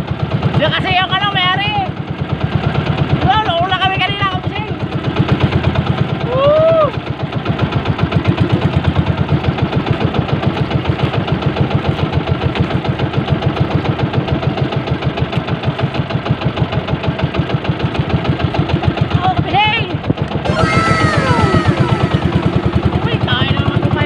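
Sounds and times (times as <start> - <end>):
small boat engine chugging: 0.0 - 24.0.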